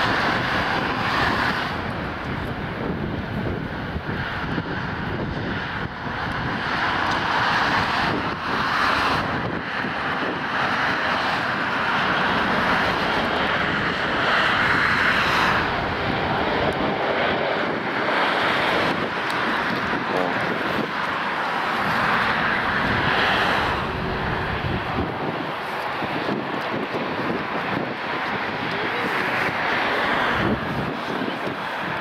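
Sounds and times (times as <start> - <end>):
jet engines running loud: 0.0 - 32.0.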